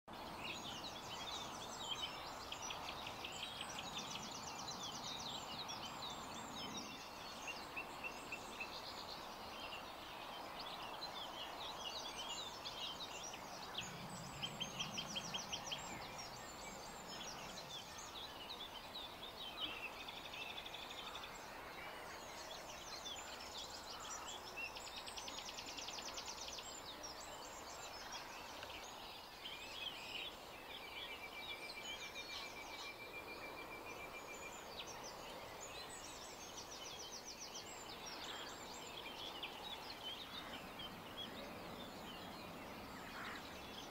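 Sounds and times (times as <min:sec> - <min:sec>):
songbirds singing: 0:00.1 - 0:43.9
steady background hiss: 0:00.2 - 0:43.9.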